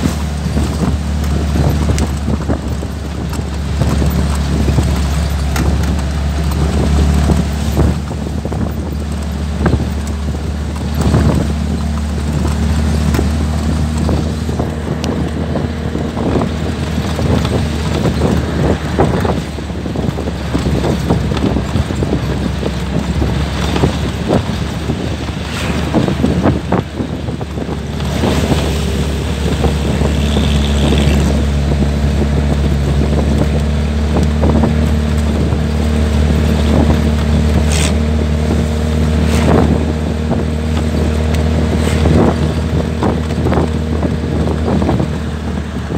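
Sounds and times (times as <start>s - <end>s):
knocks and rattles: 0.0s - 45.9s
vehicle engine running: 0.0s - 45.9s
wind buffeting microphone: 0.0s - 45.9s.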